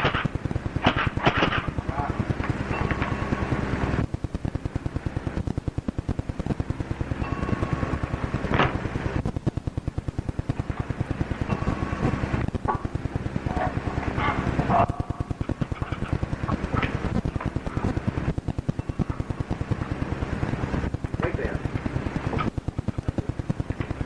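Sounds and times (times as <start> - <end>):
rapid mechanical clicking: 0.0 - 24.0.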